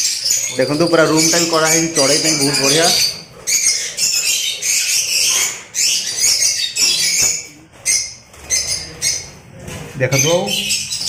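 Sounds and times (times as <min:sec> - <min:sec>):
lovebirds chirping and squawking: 0:00.0 - 0:11.0.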